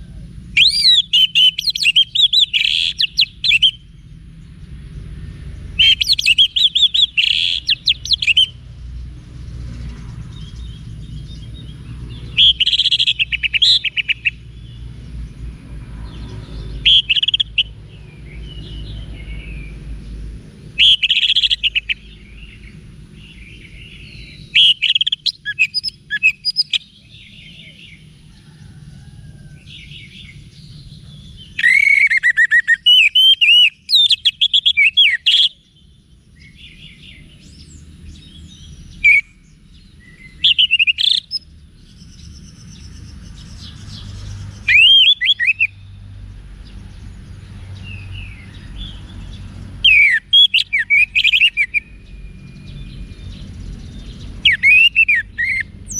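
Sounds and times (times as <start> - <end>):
bird singing whistles and warbles: 0.0 - 4.0, 5.7 - 8.6, 9.8 - 14.9, 16.0 - 19.9, 20.7 - 28.1, 29.7 - 46.0, 47.6 - 55.9.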